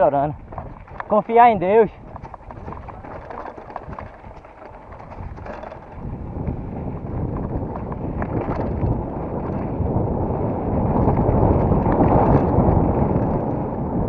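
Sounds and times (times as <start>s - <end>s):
bike clicks and rattles: 0.0s - 14.0s
wind rushing over microphone: 0.0s - 14.0s.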